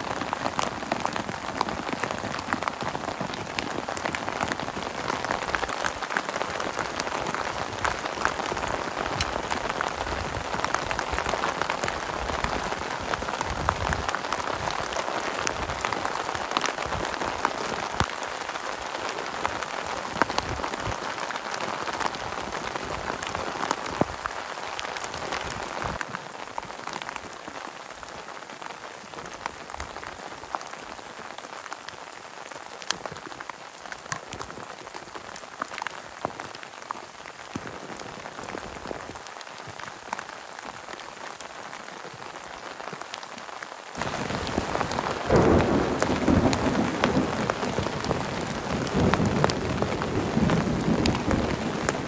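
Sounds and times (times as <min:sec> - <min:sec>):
heavy rain on plastic tarp: 0:00.0 - 0:52.0.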